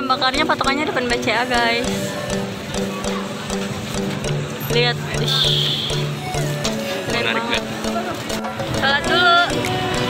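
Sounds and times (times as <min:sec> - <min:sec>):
music with held notes: 0:00.0 - 0:10.0
steady beat: 0:00.0 - 0:10.0.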